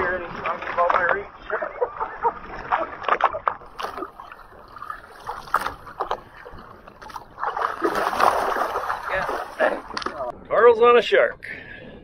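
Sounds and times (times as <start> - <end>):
water splashing against boat hull: 0.0 - 10.3.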